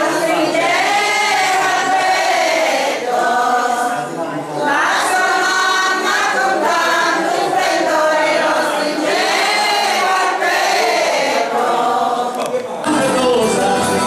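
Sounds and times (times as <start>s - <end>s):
group singing a folk song: 0.0s - 14.0s.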